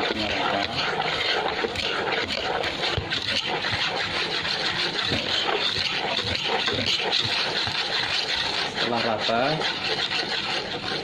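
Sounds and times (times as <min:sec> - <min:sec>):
whisk scraping in plastic bowl: 0:00.0 - 0:11.0.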